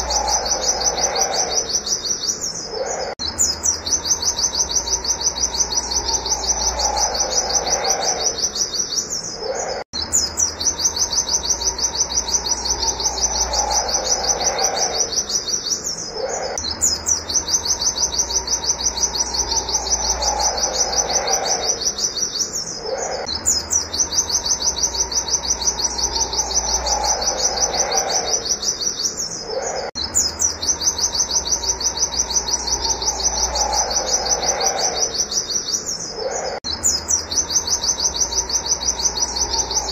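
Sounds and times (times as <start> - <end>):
bird chirping high wit notes: 0.0 - 39.9
lower falling bird call: 0.0 - 39.9.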